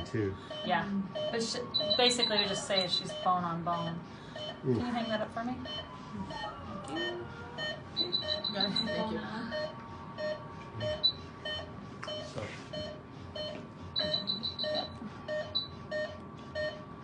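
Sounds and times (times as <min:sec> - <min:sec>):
higher alarm beeps: 0:00.0 - 0:16.8
patient monitor beeping: 0:00.0 - 0:17.0.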